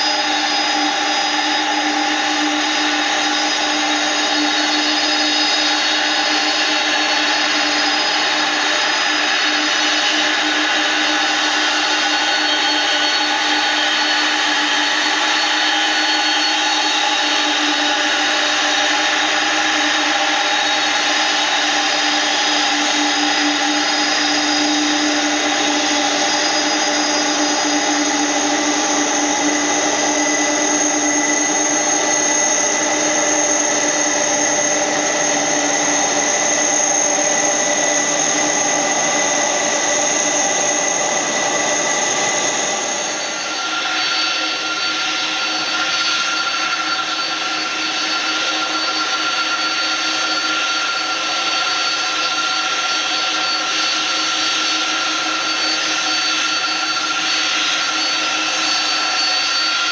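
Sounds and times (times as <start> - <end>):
high engine whine: 0.0 - 59.9
jet engines droning: 0.0 - 59.9.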